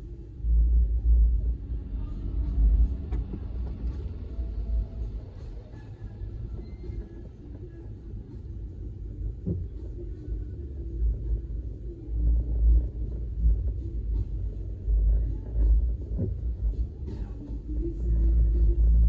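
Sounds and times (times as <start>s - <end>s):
vehicle rumble in traffic: 0.0s - 19.0s.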